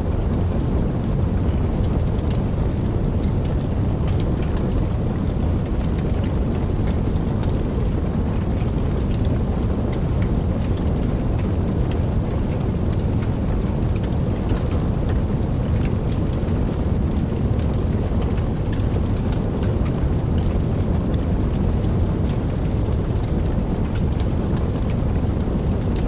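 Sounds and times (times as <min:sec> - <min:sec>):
campfire flames rumbling: 0:00.0 - 0:26.0
fire crackling and popping: 0:00.0 - 0:26.0.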